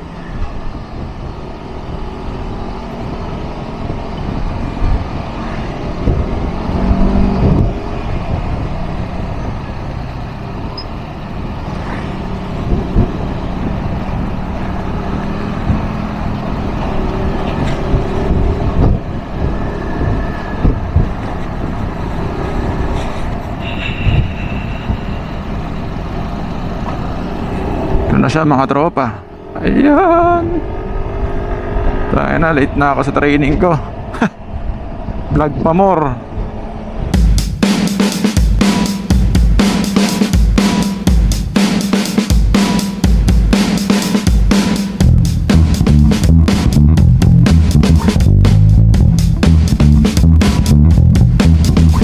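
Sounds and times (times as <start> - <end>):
road and wind noise: 0.0 - 52.0.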